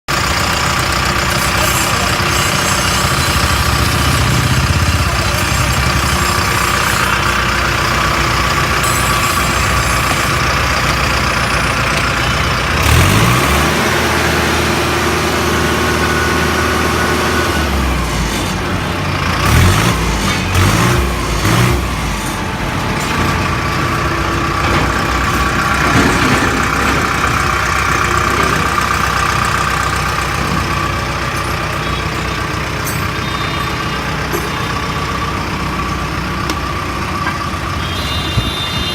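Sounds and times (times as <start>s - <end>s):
tractor diesel engine revving: 0.1s - 38.9s.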